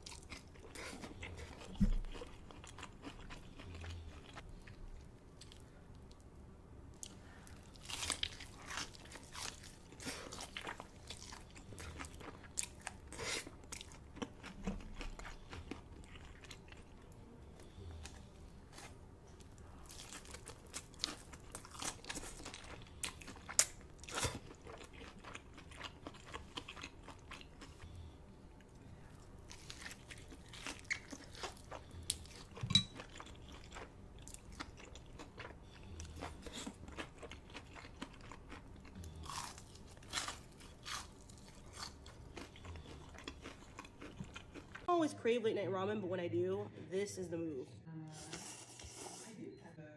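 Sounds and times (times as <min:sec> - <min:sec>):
person chewing crunchy food: 0:00.0 - 0:06.2, 0:06.9 - 0:44.9.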